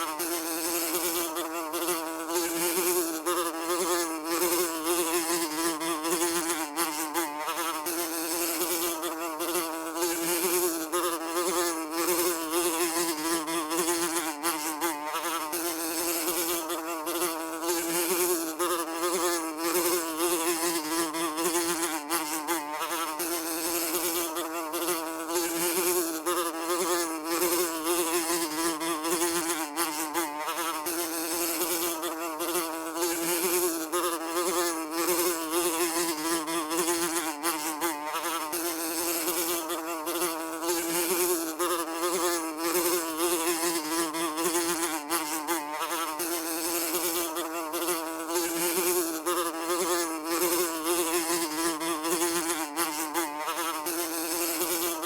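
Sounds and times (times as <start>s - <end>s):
housefly buzzing: 0.0s - 55.0s.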